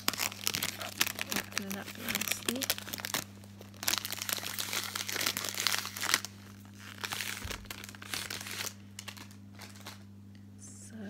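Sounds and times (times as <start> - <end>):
cellophane wrap crinkling: 0.0 - 10.1.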